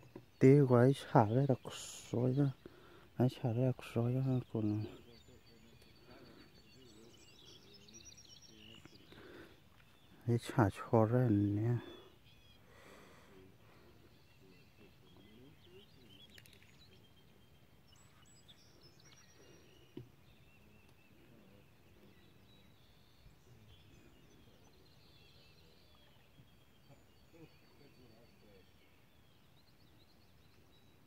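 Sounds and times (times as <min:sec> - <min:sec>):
faint bird chirps: 0:00.0 - 0:31.0.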